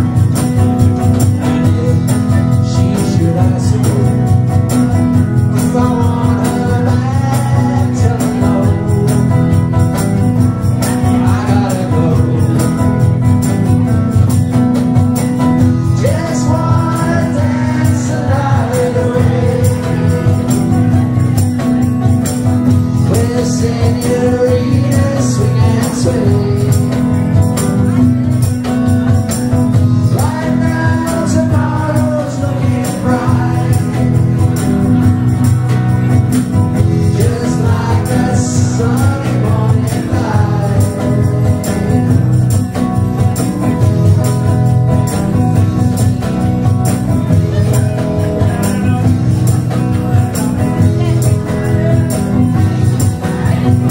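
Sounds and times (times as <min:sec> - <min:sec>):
electric guitar: 0:00.0 - 0:53.9
man singing: 0:00.0 - 0:53.9
tambourine jingling: 0:00.0 - 0:53.9.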